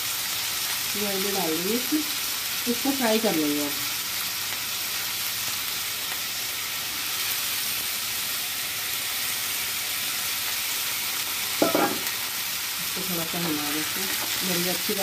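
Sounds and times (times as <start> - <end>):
vegetable pieces sizzling in oil: 0.0 - 15.0.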